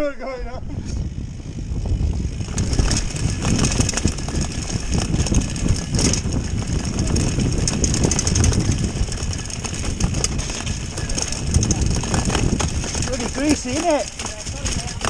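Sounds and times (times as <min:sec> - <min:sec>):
bike tyres rumbling over dirt: 0:00.6 - 0:15.0
bike rattling clicks: 0:01.0 - 0:15.0.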